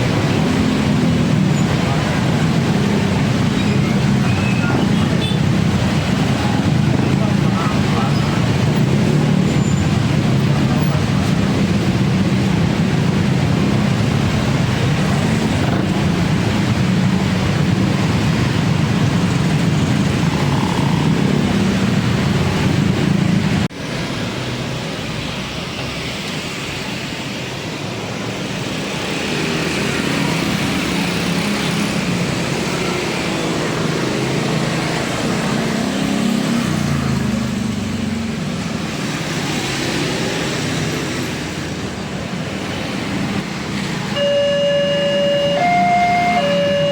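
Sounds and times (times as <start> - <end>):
road traffic noise: 0.0 - 46.9.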